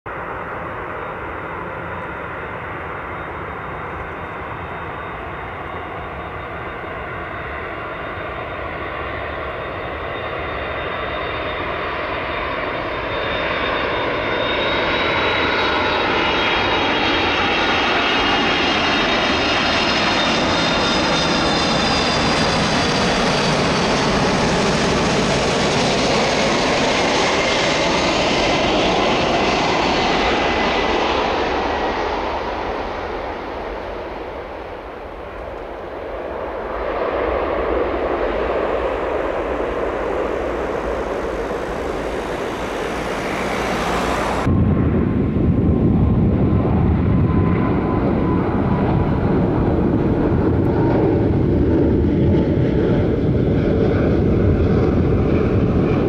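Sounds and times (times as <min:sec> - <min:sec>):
high jet engine whine: 0:00.1 - 0:56.0
jet airliner engines rumbling: 0:00.1 - 0:56.0.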